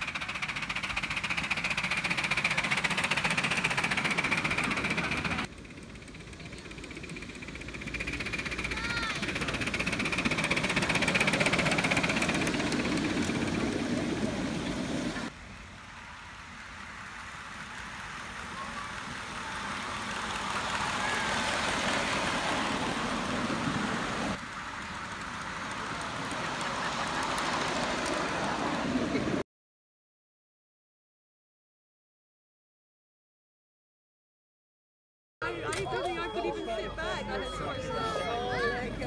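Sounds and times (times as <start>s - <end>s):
miniature train running: 0.0s - 29.4s, 35.4s - 39.0s.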